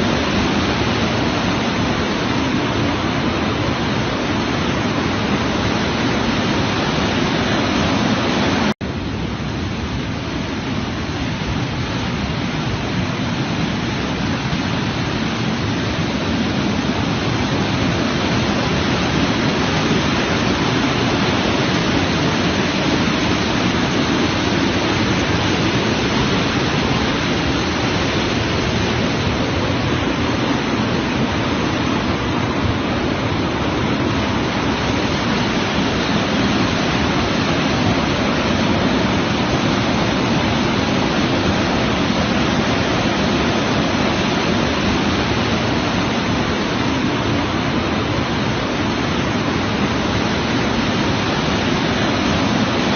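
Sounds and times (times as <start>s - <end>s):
water rushing from a dam: 0.0s - 52.9s.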